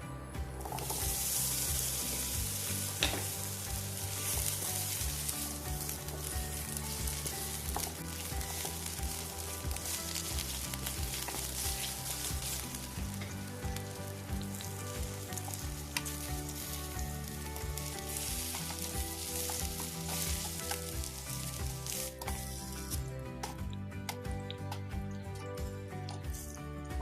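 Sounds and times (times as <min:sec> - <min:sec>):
food sizzling in oil: 0:00.5 - 0:23.6.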